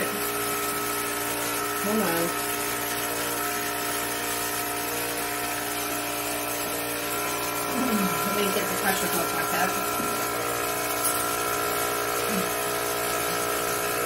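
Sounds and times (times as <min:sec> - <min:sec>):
vacuum pump motor humming: 0:00.0 - 0:14.0.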